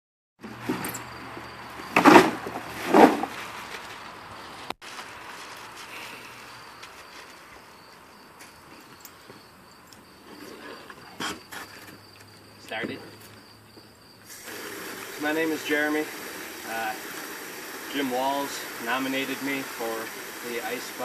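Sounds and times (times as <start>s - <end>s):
insect drone: 0.5s - 21.0s.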